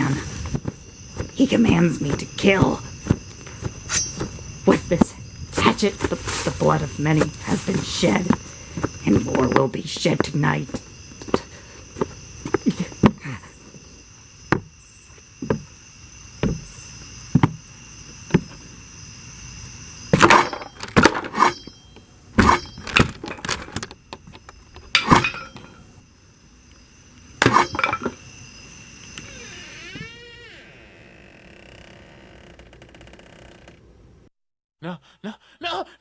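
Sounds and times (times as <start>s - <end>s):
crickets chirping: 0.0s - 34.3s, 35.0s - 36.0s.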